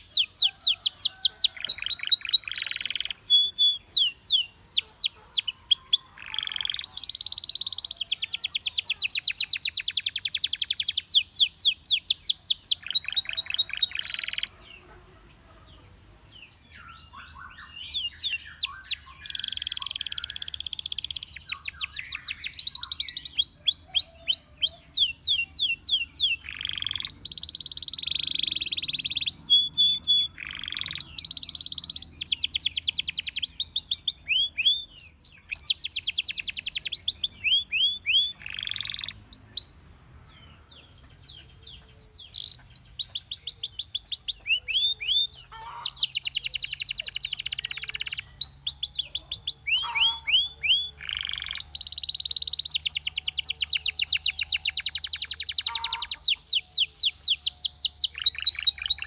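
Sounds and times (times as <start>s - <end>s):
canary singing trills and whistles: 0.0s - 14.9s, 16.6s - 39.8s, 40.8s - 59.0s.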